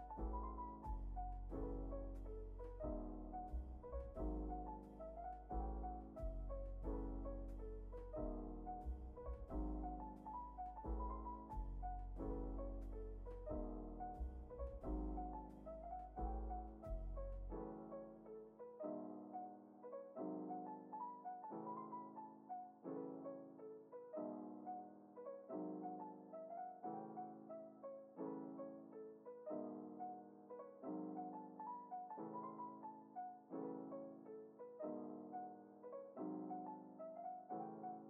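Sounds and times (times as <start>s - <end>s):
soft piano music: 0.0s - 38.0s.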